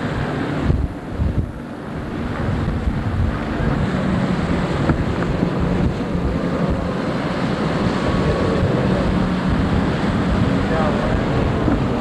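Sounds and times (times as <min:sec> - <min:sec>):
distant powerboat engines droning: 0:00.0 - 0:12.0
wind buffeting microphone: 0:00.0 - 0:12.0.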